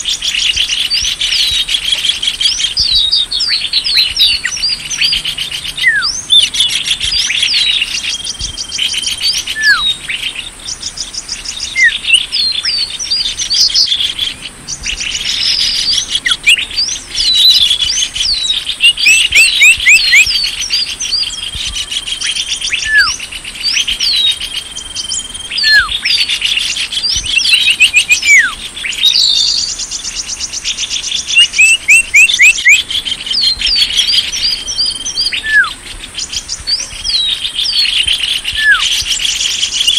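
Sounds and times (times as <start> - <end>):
descending bird whistles: 0.0 - 39.9
songbirds chirping and trilling: 0.0 - 39.9.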